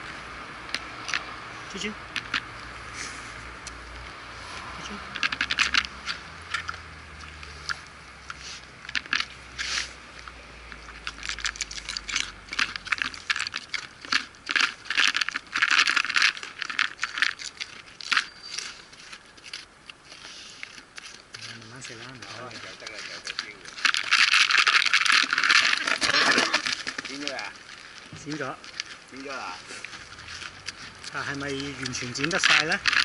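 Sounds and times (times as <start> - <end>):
boar crunching dry pellets: 0.0 - 33.0.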